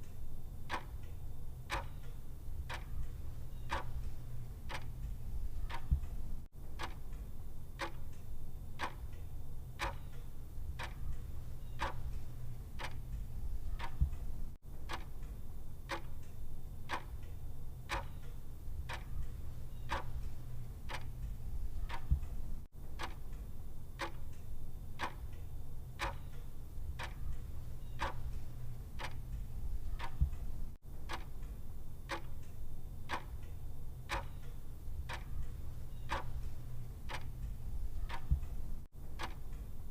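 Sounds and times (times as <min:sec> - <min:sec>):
low steady hum: 0:00.0 - 0:39.9
mechanical clock ticking: 0:00.0 - 0:39.9.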